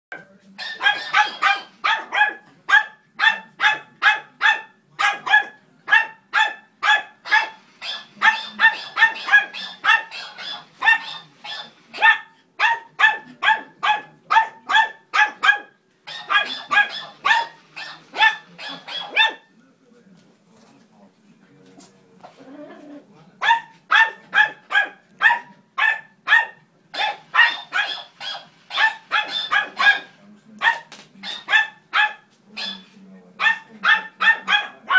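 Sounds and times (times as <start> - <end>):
small dog barking rapidly: 0.6 - 19.5, 23.4 - 32.8, 33.4 - 34.9.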